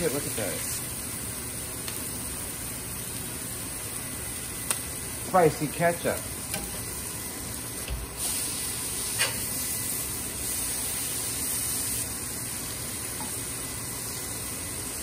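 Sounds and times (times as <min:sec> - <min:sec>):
beef patties sizzling on griddle: 0:00.0 - 0:15.0.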